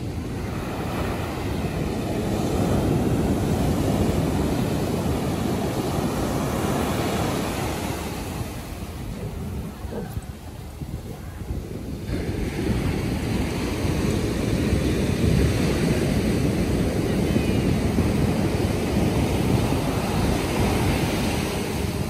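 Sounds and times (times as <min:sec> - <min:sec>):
surf breaking on beach: 0:00.0 - 0:22.0
wind rumbling on microphone: 0:00.0 - 0:22.0.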